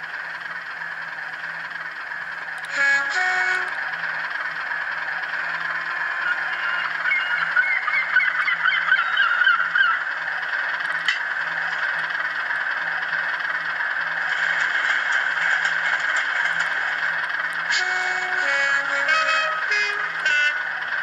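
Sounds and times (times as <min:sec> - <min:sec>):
diesel engine through tiny speaker: 0:00.0 - 0:21.0.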